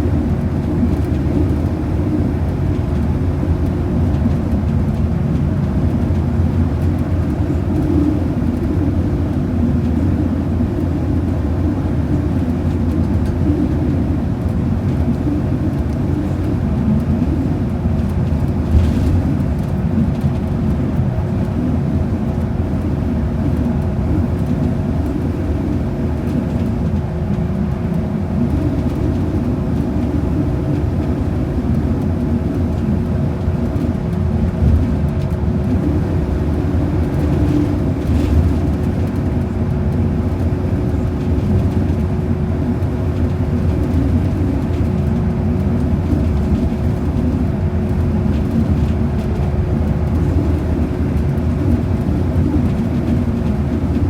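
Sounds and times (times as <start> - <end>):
bus engine and road rumble: 0.0 - 54.0
drivetrain hum: 0.0 - 54.0.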